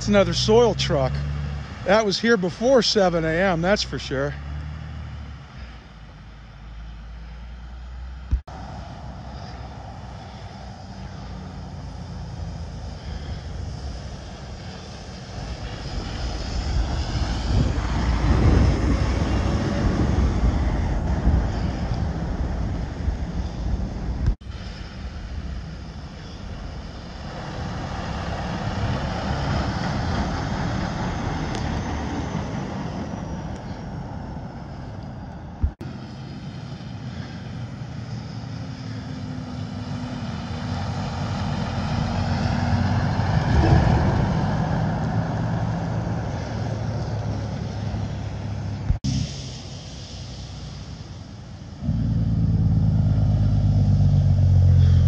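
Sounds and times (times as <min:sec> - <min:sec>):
deep diesel engine close by: 0:00.0 - 0:55.0
diesel trucks passing: 0:00.0 - 0:55.0.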